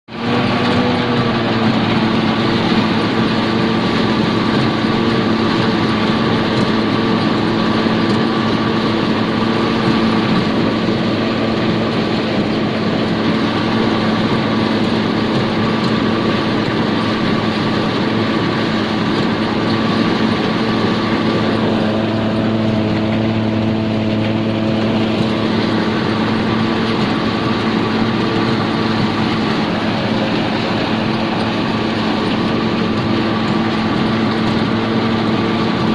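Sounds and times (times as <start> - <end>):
harvesting machine humming: 0.1 - 35.9.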